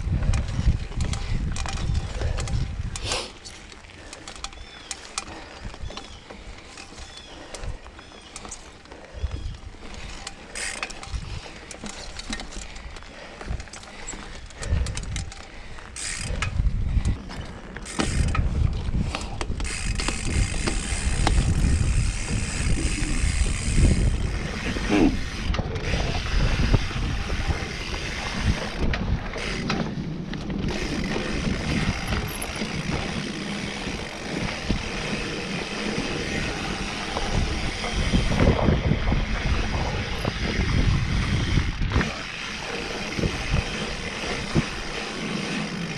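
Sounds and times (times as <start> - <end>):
bike chain and parts rattling: 0.0 - 45.9
tyre noise on dirt: 0.0 - 45.9.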